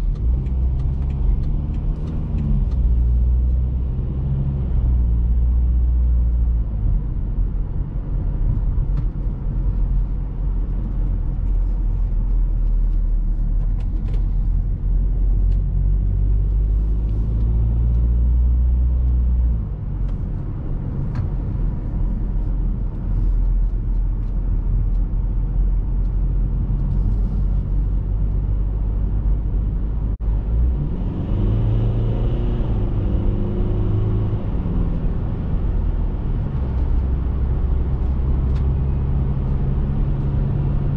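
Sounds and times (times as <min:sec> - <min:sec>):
diesel engine rumble: 0:00.0 - 0:40.9
tyre and road noise: 0:00.0 - 0:40.9.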